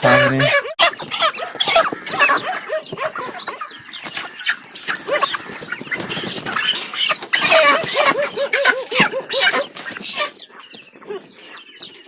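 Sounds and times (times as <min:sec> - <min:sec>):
chickens squawking and clucking: 0:00.0 - 0:12.0.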